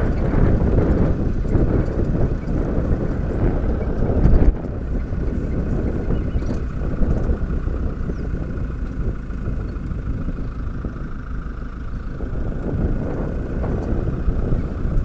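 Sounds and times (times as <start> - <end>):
vehicle engine running: 0.0 - 15.0
wind rumble on microphone: 0.0 - 15.0.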